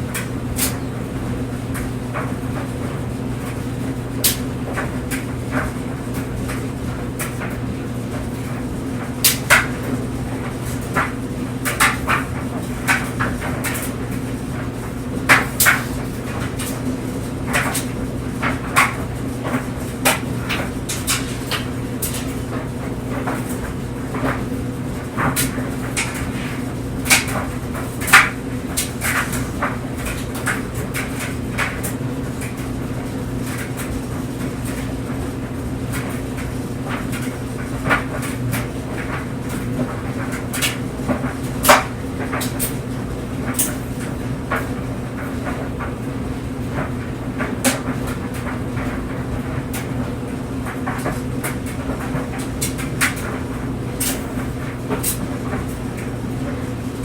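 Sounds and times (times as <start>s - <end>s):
clothes dryer humming: 0.0s - 57.0s.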